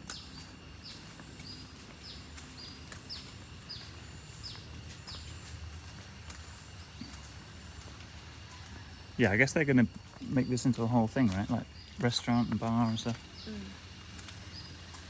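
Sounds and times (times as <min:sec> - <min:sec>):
insect drone: 0:00.0 - 0:15.0.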